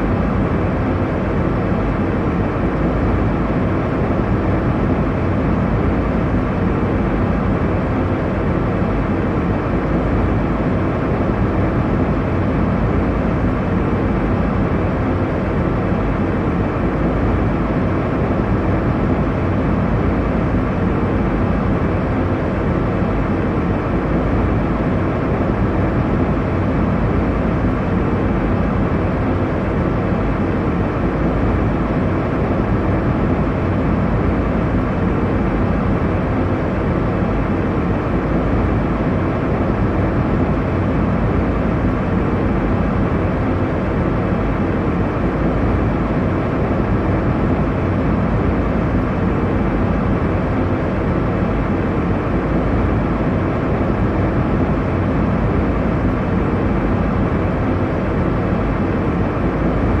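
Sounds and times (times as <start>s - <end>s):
airliner cabin engine rumble: 0.0s - 60.0s.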